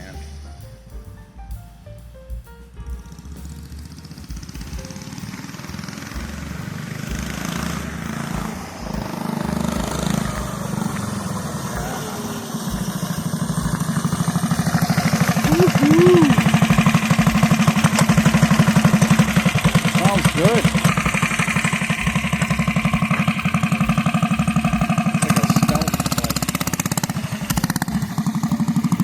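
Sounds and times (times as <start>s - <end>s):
small single-cylinder engine running: 4.5s - 29.0s.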